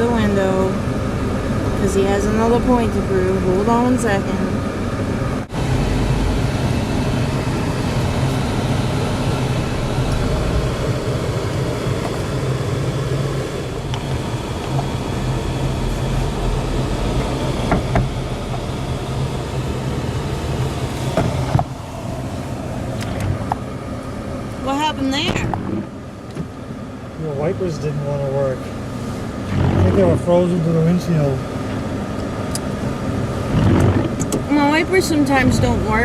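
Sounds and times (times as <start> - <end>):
car engine hum: 0.0 - 36.0
road noise: 0.0 - 36.0.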